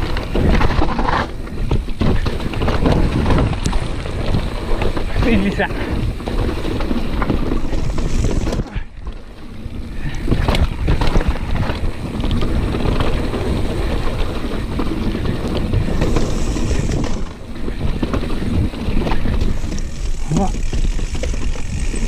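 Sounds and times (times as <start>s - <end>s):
bike knocking and rattling: 0.0s - 22.0s
bike tyre noise: 0.0s - 22.0s
wind rushing over microphone: 0.0s - 22.0s.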